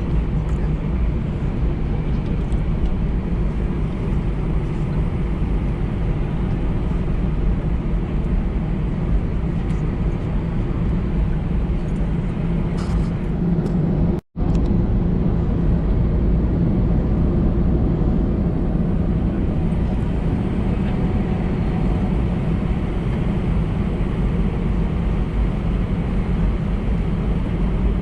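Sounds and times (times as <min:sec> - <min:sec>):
airplane cabin low rumble: 0:00.0 - 0:28.0.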